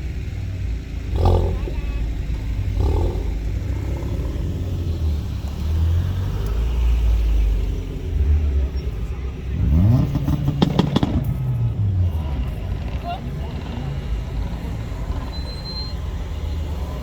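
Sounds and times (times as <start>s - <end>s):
car exhaust rumble: 0.0s - 17.0s.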